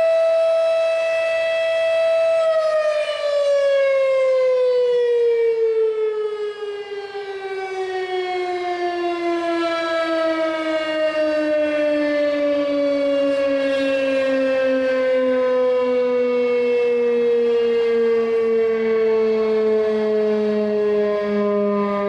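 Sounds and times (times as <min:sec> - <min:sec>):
warning siren sliding down in pitch: 0:00.0 - 0:22.0.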